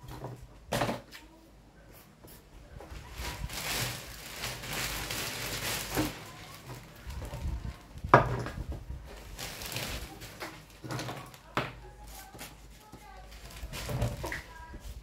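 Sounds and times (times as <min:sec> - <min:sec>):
plastic bag rustling: 0:02.8 - 0:15.0.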